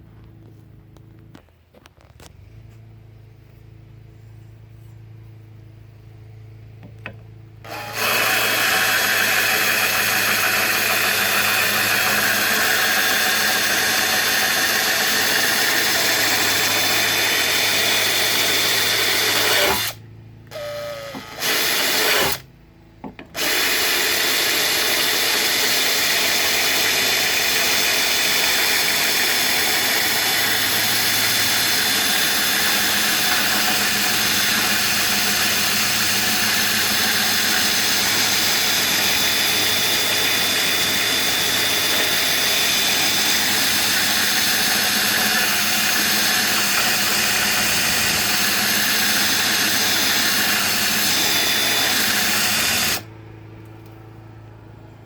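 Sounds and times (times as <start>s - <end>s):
power drill motor humming: 7.6s - 22.5s, 23.4s - 53.1s.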